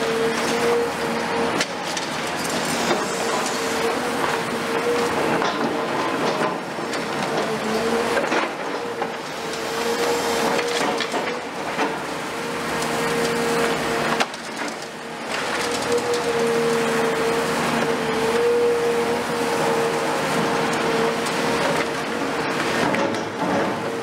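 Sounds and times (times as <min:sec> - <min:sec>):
concrete crunching and cracking: 0:00.0 - 0:24.0
hydraulics whining: 0:00.0 - 0:24.0.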